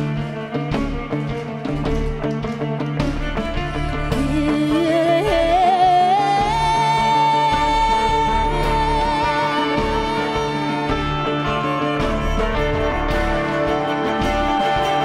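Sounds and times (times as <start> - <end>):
electric violin melody: 0.0 - 15.0
sustained keyboard and bass: 0.0 - 15.0.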